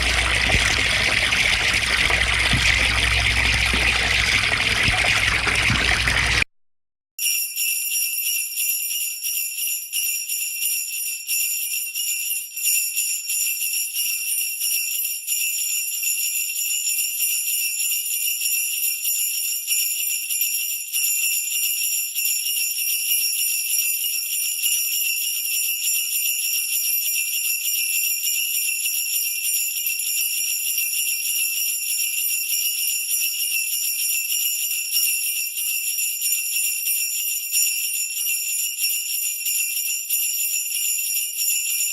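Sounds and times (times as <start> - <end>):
sleigh bells jingling: 0.0 - 1.4, 7.2 - 41.9.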